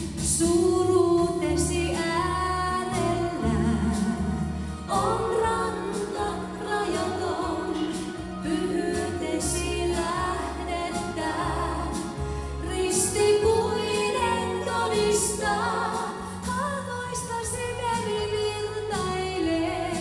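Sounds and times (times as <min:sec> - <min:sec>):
woman singing into a microphone: 0:00.2 - 0:20.0.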